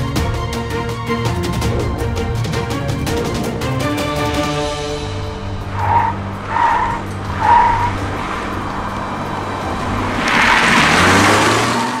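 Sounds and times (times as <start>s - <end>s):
car driving with low hum: 0.0s - 12.0s
tyre and road noise: 1.1s - 12.0s.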